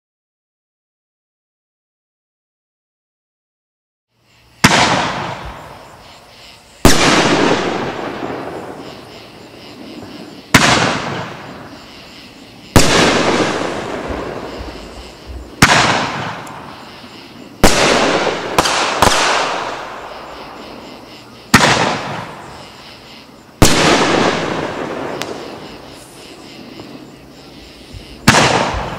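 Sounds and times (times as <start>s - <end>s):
firework bangs: 4.6s - 6.2s, 6.8s - 28.9s.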